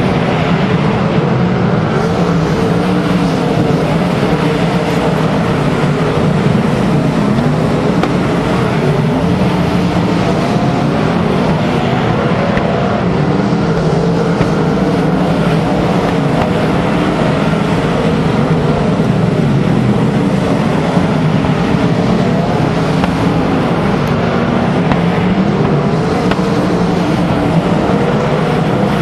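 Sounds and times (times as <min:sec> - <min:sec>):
racing car engines blaring: 0:00.0 - 0:29.0.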